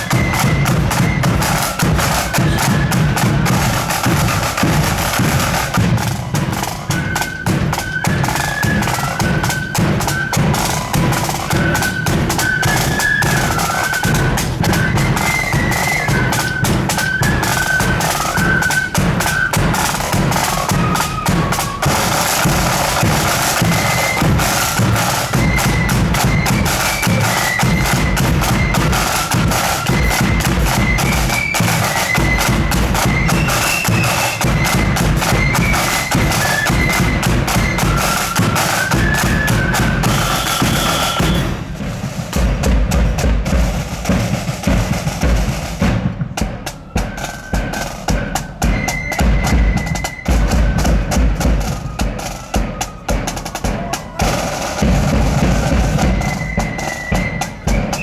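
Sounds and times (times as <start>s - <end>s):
flutes playing march: 0.0s - 58.0s
snare and bass drums: 0.0s - 58.0s.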